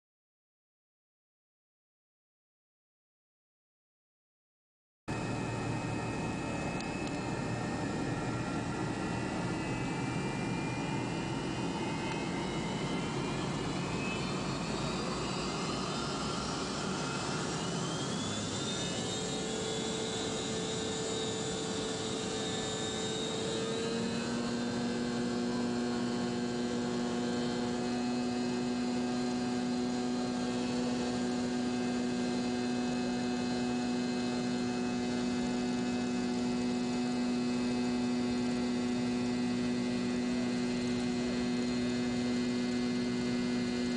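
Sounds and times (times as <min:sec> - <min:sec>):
jet engines spooling up: 0:05.1 - 0:43.9.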